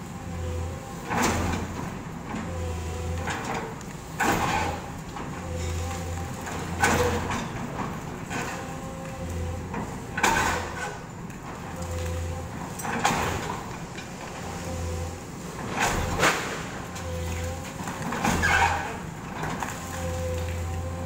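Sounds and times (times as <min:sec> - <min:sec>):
excavator engine and hydraulic whine: 0:00.0 - 0:21.0.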